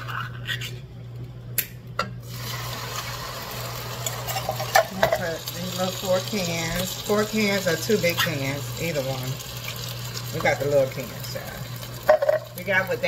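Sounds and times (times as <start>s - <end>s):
butter and sugar sizzling: 1.6s - 13.0s.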